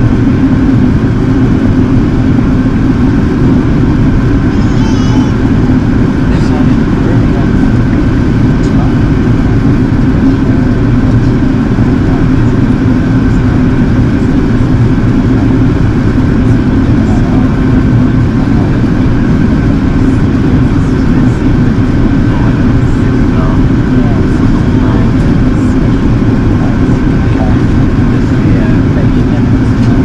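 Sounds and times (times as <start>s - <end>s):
airplane cabin rumble: 0.0s - 30.0s
steady low hum: 0.0s - 30.0s.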